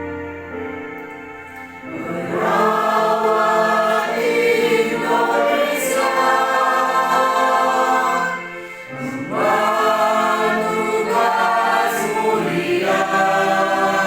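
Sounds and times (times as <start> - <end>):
choir singing in harmony: 0.0 - 14.0
keyboard playing: 0.0 - 14.0.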